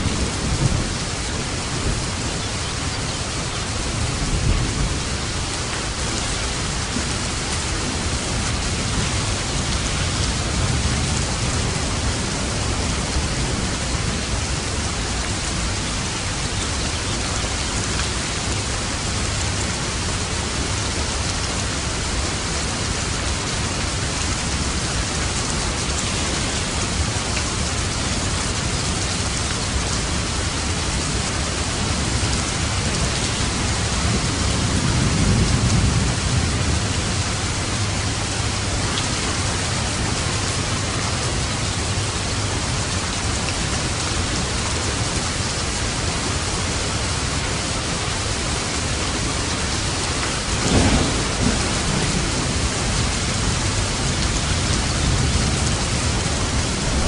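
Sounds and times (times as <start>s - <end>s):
low rumble of thunder: 0.0s - 16.4s, 22.0s - 45.1s, 48.7s - 57.0s
steady rain: 0.0s - 57.0s.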